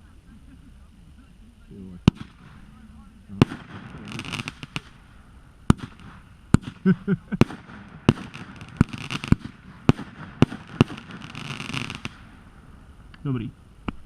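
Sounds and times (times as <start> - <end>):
firework crackling hiss: 0.0 - 14.0
firework bangs: 2.0 - 14.0.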